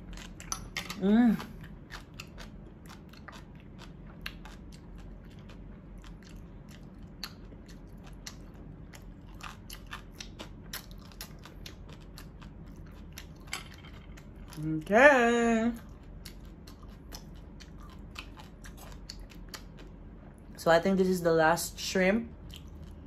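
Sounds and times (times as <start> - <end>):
person chewing crunchy food: 0.0 - 14.8, 15.8 - 20.5, 22.4 - 23.0
faint low hum: 0.0 - 23.0.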